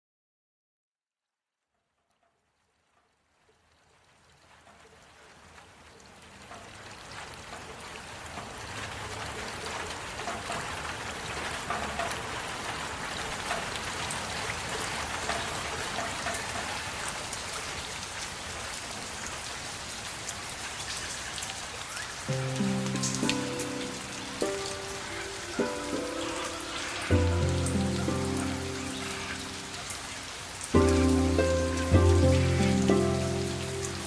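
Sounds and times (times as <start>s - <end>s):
heavy rain falling: 3.6s - 34.0s.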